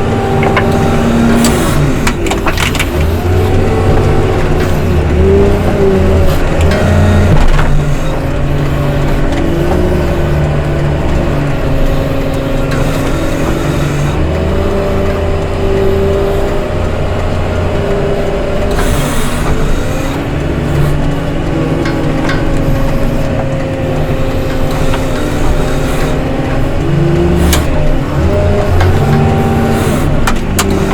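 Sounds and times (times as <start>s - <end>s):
diesel engine under load: 0.0s - 30.9s.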